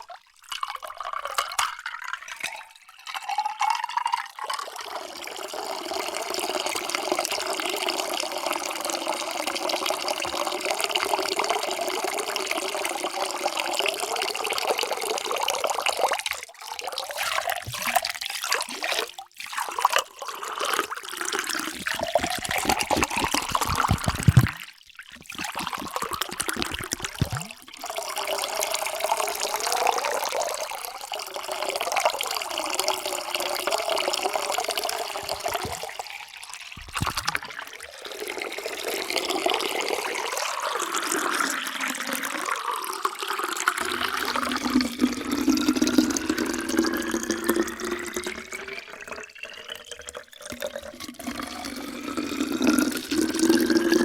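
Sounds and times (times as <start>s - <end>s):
water pouring into container: 0.0s - 54.0s.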